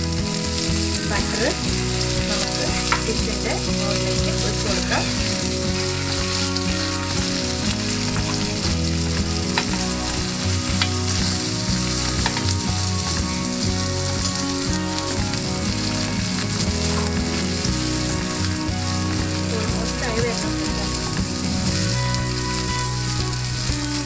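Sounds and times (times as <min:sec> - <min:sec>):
fish sizzling in butter: 0:00.0 - 0:24.0.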